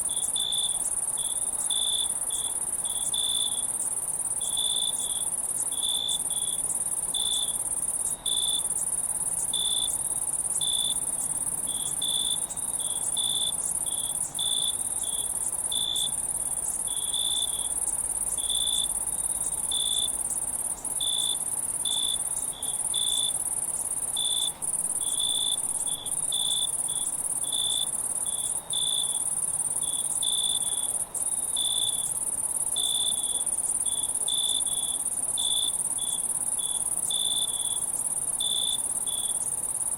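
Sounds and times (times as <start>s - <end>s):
high-pitched insect trill: 0.0s - 39.9s
low pulsing insect chirp: 0.0s - 39.9s.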